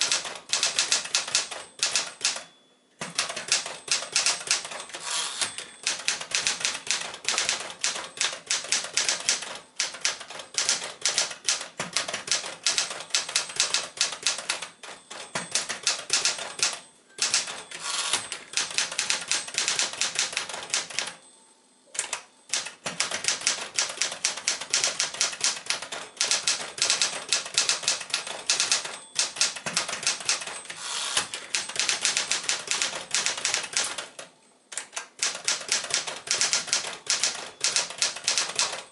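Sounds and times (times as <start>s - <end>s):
typewriter keystroke clacks: 0.0s - 2.4s, 3.0s - 21.2s, 22.0s - 38.9s.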